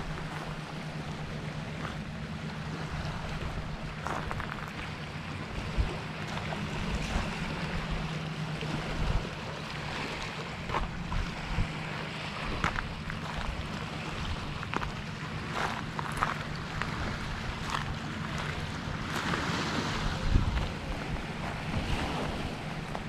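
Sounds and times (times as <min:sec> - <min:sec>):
constant low hum: 0:00.0 - 0:23.0
waves lapping against rocks: 0:00.0 - 0:23.0
wind: 0:00.0 - 0:23.0.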